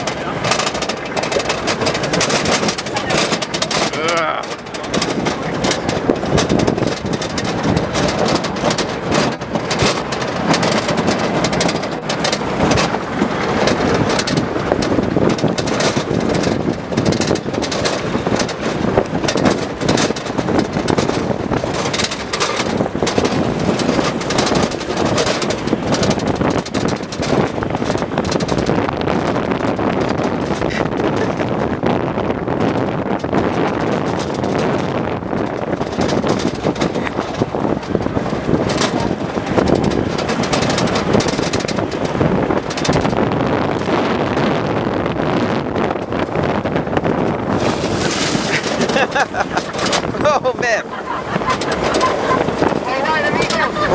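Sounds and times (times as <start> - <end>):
vehicle body clattering: 0.0 - 53.9
vehicle engine running: 0.0 - 53.9
wind buffeting microphone: 0.0 - 53.9.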